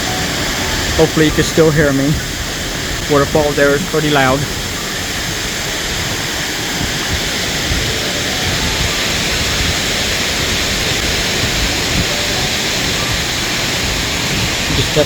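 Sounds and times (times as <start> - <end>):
water rushing over waterfall: 0.0 - 15.0.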